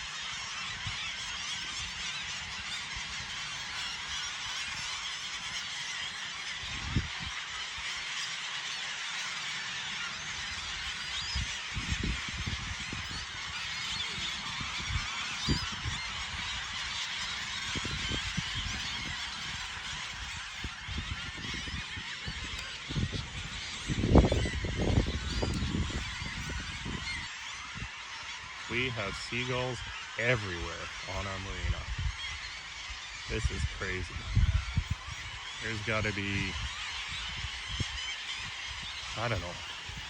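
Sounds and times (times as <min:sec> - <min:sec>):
flock of gulls squawking: 0:00.0 - 0:40.0.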